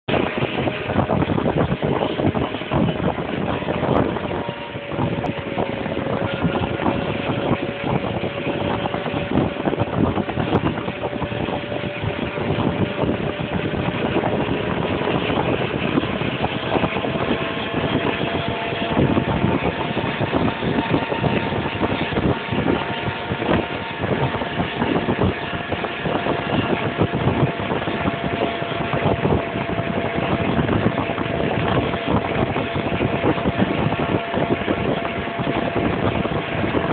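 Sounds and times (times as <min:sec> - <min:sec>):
armoured car engine drone: 0:00.0 - 0:36.9
faint whine: 0:00.1 - 0:36.9.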